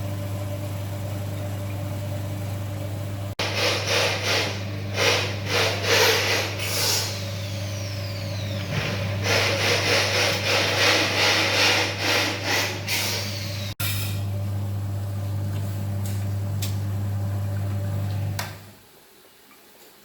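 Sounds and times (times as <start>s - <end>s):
motor hum: 0.0s - 18.7s.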